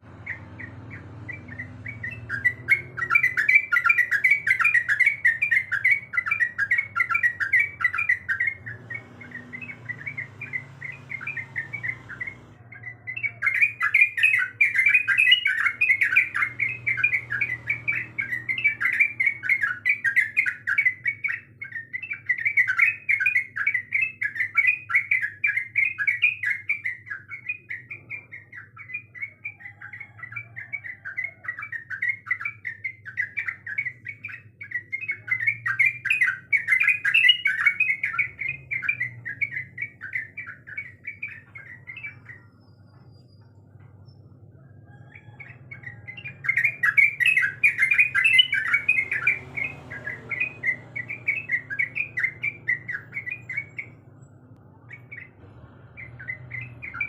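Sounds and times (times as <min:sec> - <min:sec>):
bulbul singing chattering song: 0:00.0 - 0:57.0.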